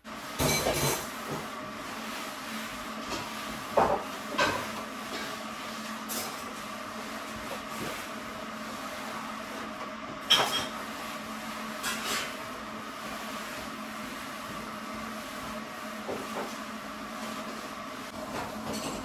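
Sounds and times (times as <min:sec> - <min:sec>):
room hum: 0:00.0 - 0:19.0.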